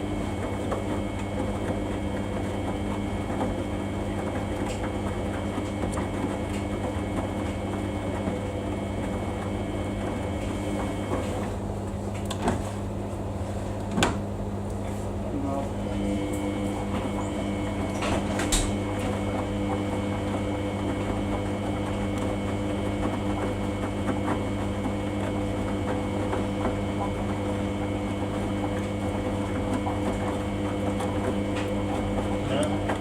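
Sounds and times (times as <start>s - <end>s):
washing machine motor hum: 0.0s - 33.0s.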